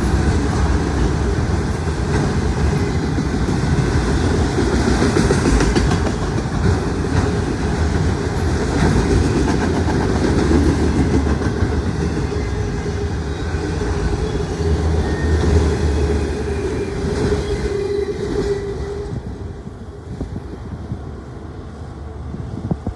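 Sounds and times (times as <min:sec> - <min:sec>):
freight train rolling past: 0:00.0 - 0:22.9.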